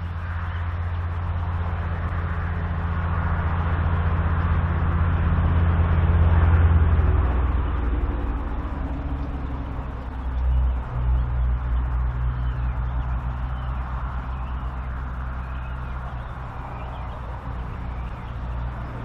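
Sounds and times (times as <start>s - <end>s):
motor engine passing by: 0.0s - 19.0s.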